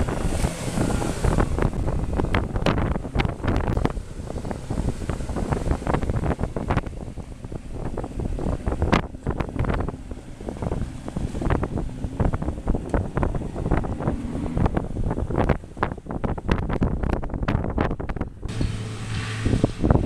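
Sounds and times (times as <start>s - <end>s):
faint boat engine: 0.0s - 20.0s
wind buffeting microphone: 0.0s - 20.0s.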